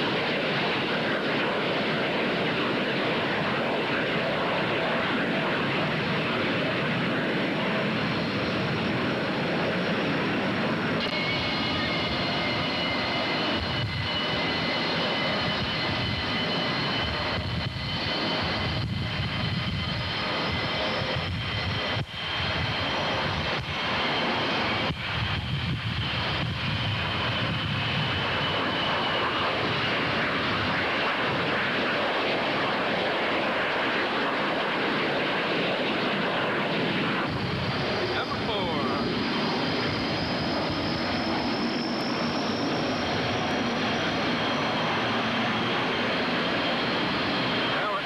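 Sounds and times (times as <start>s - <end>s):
high jet whine: 0.0s - 48.0s
jet aircraft roar: 0.0s - 48.0s.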